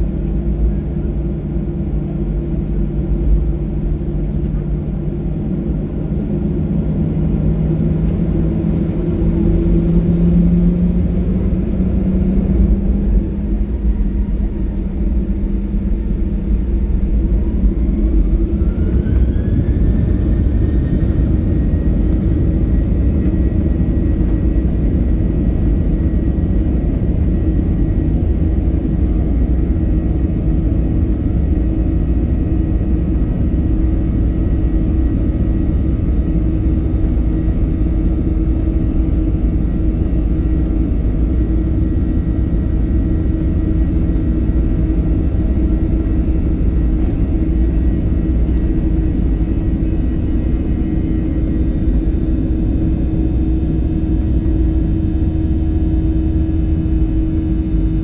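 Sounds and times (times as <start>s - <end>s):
constant low rumble: 0.0s - 58.0s
jet engine whine rising: 0.0s - 58.0s.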